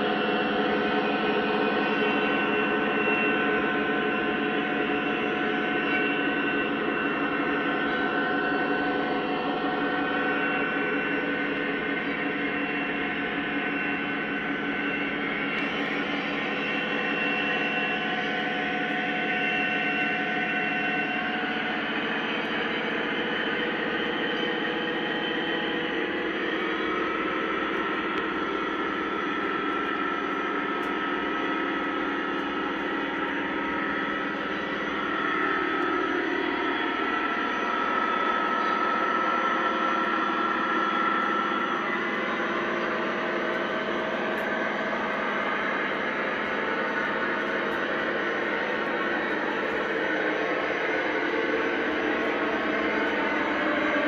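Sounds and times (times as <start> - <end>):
held ringing tone: 0.0 - 54.0
steady hum: 0.0 - 54.0
model train wheels rumbling on rails: 7.6 - 54.0.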